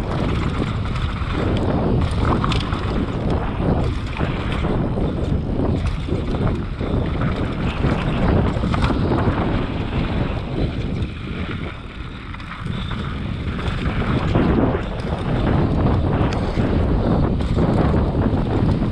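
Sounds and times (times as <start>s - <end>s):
bike rattling over bumps: 0.0s - 18.9s
tyres rolling over dry dirt: 0.0s - 18.9s
wind buffeting microphone: 0.0s - 18.9s.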